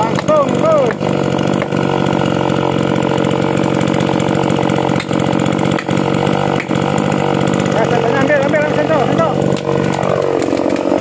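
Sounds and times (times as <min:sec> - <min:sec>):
chainsaw idling: 0:00.0 - 0:11.0
machete chopping tree: 0:00.0 - 0:11.0.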